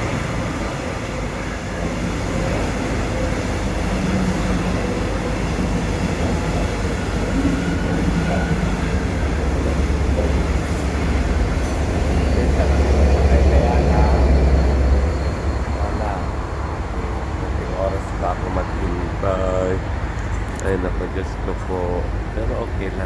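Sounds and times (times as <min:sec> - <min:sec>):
train engine rumble: 0:00.0 - 0:23.0.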